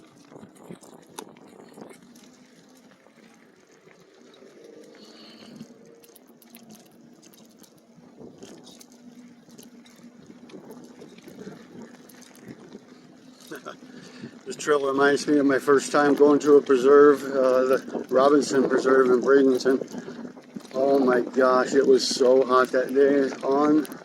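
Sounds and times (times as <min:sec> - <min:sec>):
clicks and crackles: 0:00.0 - 0:24.0
electric bike motor whine: 0:00.0 - 0:24.0
tyres on dirt trail: 0:00.0 - 0:24.0.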